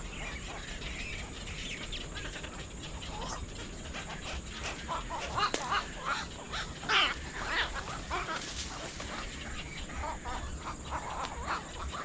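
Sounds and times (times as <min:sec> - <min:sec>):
many birds calling: 0:00.0 - 0:12.0.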